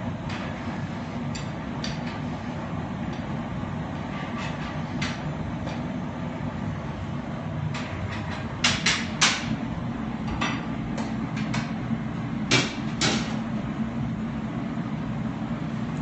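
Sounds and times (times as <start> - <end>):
furnace roaring: 0.0 - 16.0.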